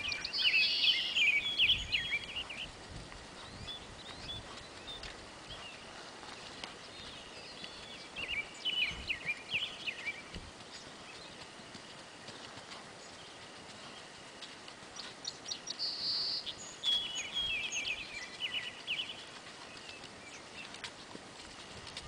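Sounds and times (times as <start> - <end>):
outdoor background hiss: 0.0 - 22.0
songbird chirping: 0.0 - 22.0.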